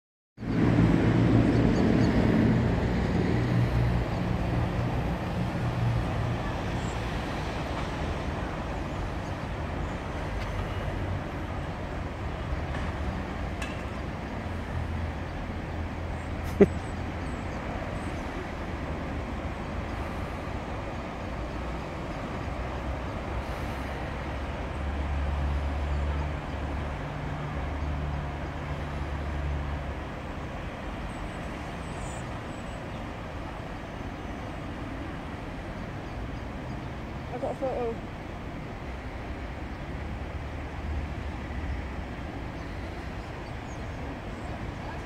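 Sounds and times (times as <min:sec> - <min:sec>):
road traffic: 0:00.4 - 0:45.0.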